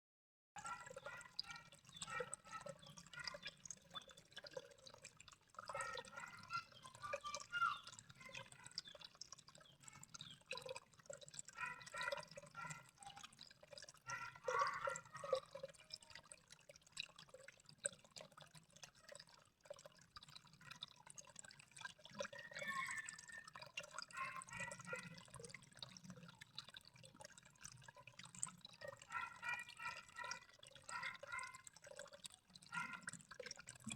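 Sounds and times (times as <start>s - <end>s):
water dripping and trickling: 0.6s - 33.9s.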